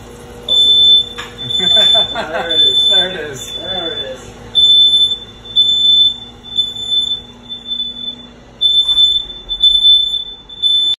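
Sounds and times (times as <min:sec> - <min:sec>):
smoke alarm beeping: 0:00.5 - 0:11.0.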